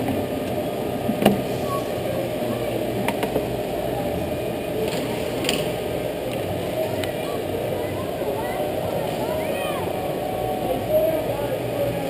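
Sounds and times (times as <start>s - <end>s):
go-kart track din: 0.0s - 12.0s.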